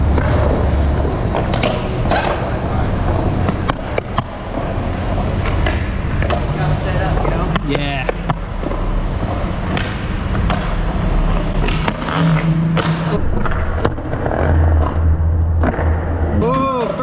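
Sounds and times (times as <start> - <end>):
skateboard clacking on ground: 0.0 - 14.4
skateboard wheels rolling on concrete: 0.0 - 17.0.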